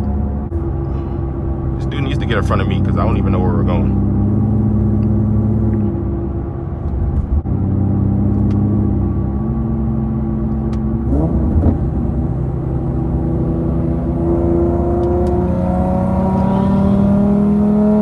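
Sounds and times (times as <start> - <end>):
loud car exhaust drone: 0.0 - 18.0.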